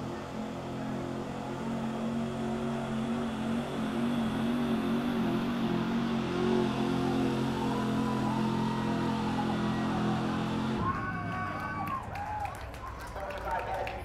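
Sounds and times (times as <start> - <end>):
truck engine running hard: 0.0 - 14.0.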